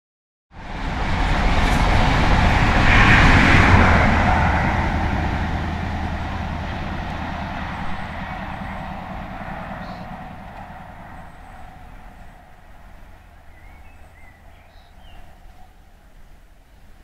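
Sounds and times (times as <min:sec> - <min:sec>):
train wheels on rails: 0:00.6 - 0:15.7
train engine hum: 0:00.6 - 0:17.0.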